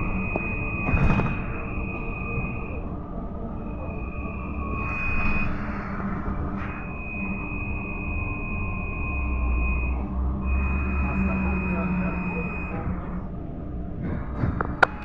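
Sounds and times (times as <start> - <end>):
high electric whine: 0.0 - 13.7
trolleybus low rumble: 0.0 - 15.0.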